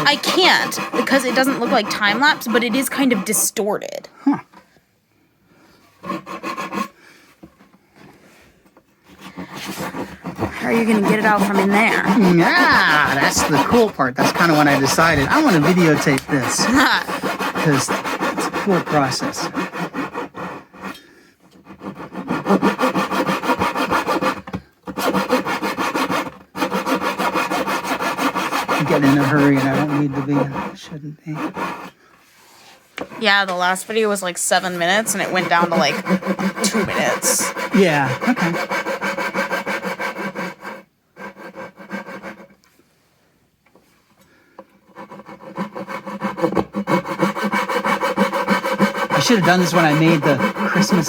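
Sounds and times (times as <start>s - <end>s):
hand saw rasping through wood: 0.0s - 3.7s, 6.0s - 7.0s, 9.0s - 32.0s, 33.0s - 33.8s, 34.6s - 42.5s, 44.8s - 51.0s.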